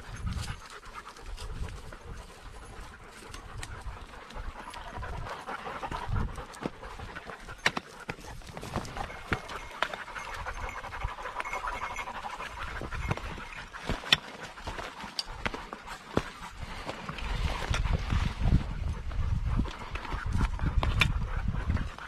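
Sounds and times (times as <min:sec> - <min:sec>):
heavy panting: 0:00.0 - 0:22.0
footsteps crunching over stones: 0:00.4 - 0:20.8.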